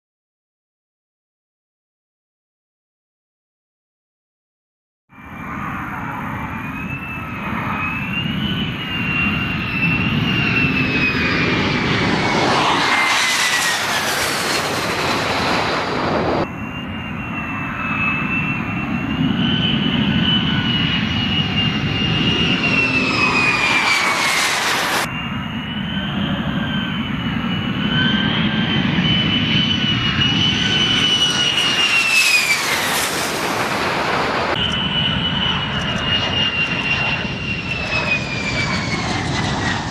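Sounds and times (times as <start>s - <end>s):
jet roar passing overhead: 5.1s - 39.9s.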